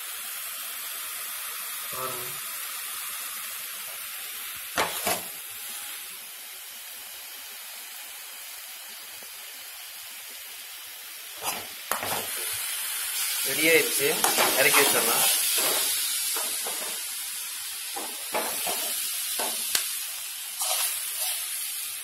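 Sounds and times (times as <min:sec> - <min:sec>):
mixture sizzling in a pan: 0:00.0 - 0:22.0.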